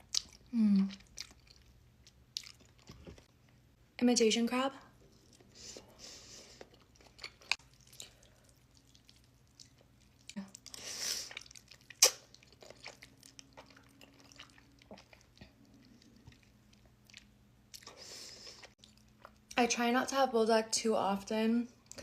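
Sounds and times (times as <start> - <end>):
wet chewing: 0.0 - 3.3, 5.0 - 19.6.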